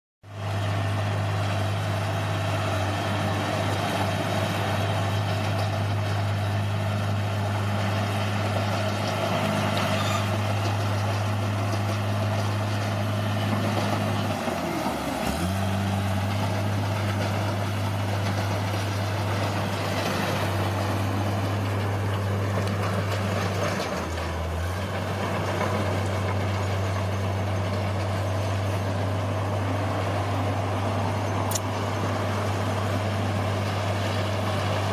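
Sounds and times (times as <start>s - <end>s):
bulldozer diesel engine running: 0.2s - 34.9s.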